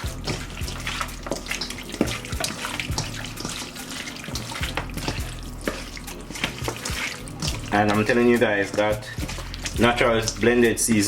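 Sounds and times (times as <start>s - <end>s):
wet smacks of meat mixed by hand: 0.0s - 11.0s.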